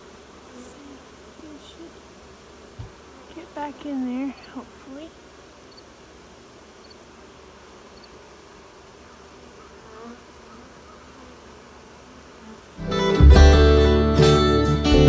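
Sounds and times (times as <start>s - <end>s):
bee buzzing past close: 0.0s - 14.0s
bees buzzing: 0.0s - 14.5s.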